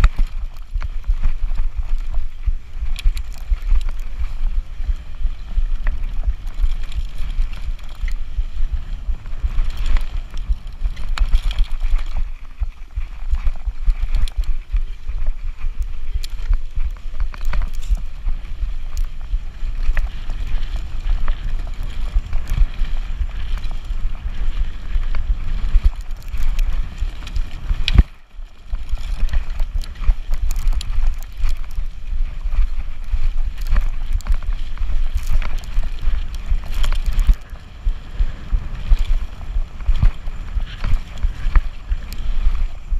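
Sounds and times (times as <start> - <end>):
bike rattles and knocks: 0.0 - 42.9
wind buffeting microphone: 0.0 - 42.9.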